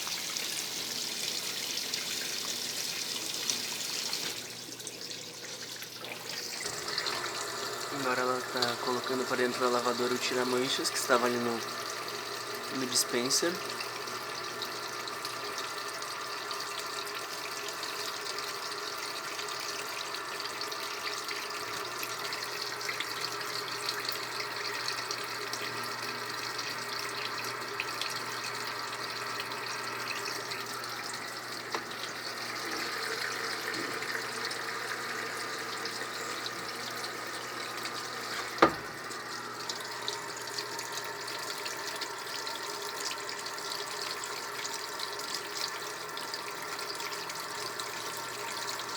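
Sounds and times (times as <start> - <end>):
water running into washing machine: 0.0 - 48.9.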